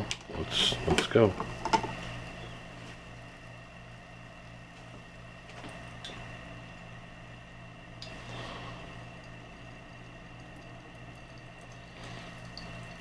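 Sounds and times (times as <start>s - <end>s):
coffee brewer humming and hissing: 0.0s - 13.0s.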